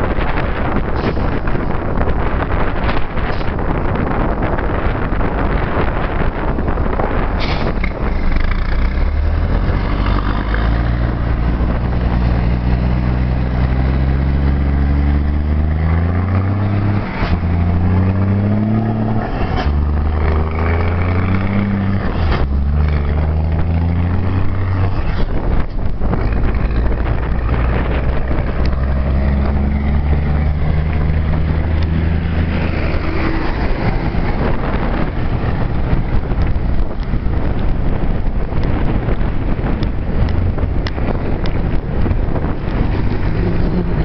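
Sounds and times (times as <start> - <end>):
heavy wind noise: 0.0 - 44.0
vehicle engine accelerating through gears: 0.0 - 44.0.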